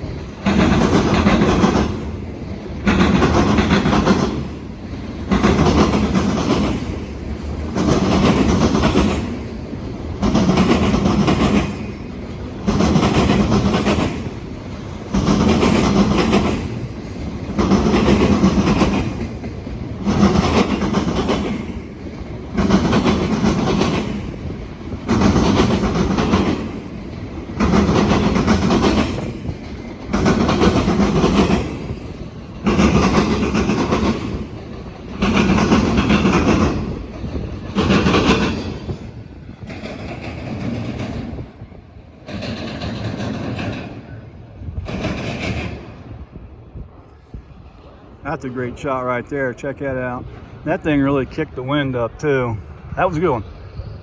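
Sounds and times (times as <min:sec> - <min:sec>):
train cars rolling: 0:00.0 - 0:54.0
train wheels clattering over crossings: 0:00.0 - 0:54.0.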